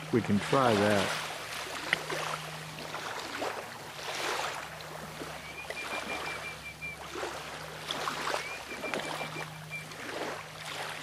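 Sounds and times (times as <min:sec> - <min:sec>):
small waves washing on beach: 0:00.0 - 0:11.0
steady low hum: 0:00.0 - 0:11.0.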